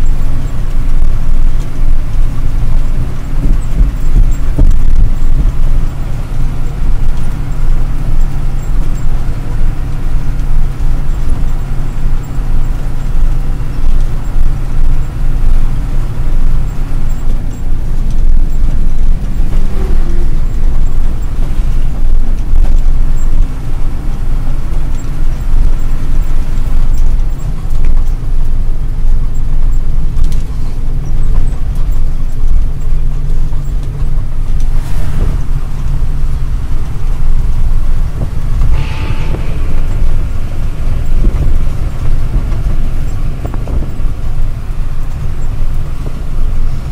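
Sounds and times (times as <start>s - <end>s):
road noise: 0.0s - 46.9s
truck diesel engine drone: 0.0s - 46.9s.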